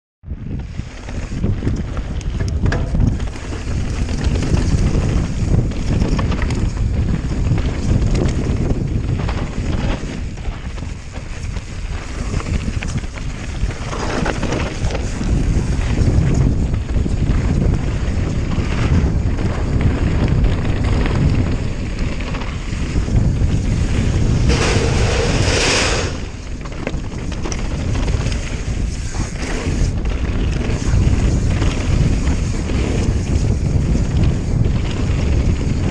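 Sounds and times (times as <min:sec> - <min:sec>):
wind buffeting microphone: 0:00.2 - 0:35.9
bike rattling: 0:00.3 - 0:35.9
tyres rumbling on gravel: 0:00.6 - 0:35.9.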